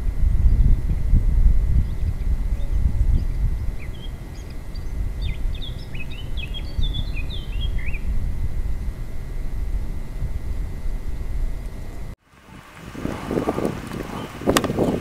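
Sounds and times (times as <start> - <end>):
songbird singing: 0.0 - 15.0
steady low rumble: 0.0 - 15.0.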